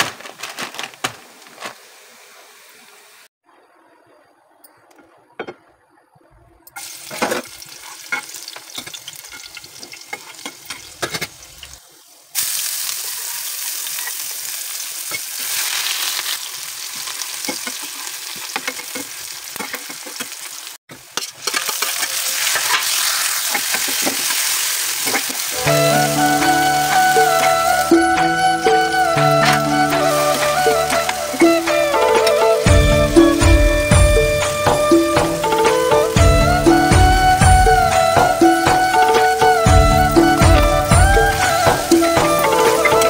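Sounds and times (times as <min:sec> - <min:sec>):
vegetables sizzling in hot oil: 0:06.8 - 0:43.0.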